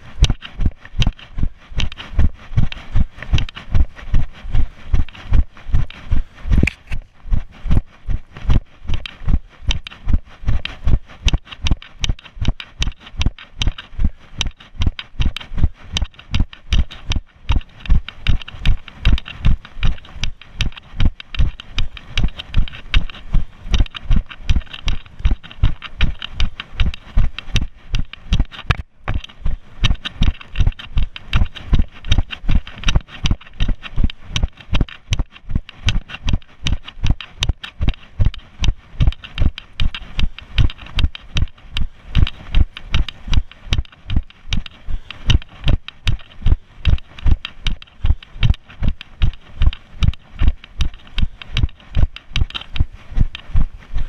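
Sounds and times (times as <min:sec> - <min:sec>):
running footsteps on grass: 0:00.0 - 0:54.0.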